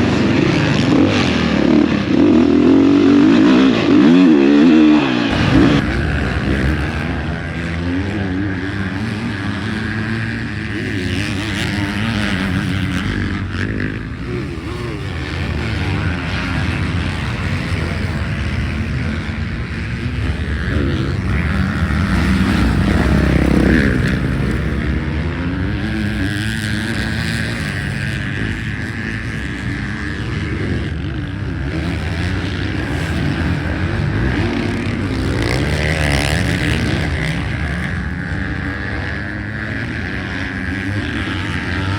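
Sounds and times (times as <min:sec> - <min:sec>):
motocross bike engine revving: 0:00.0 - 0:41.9.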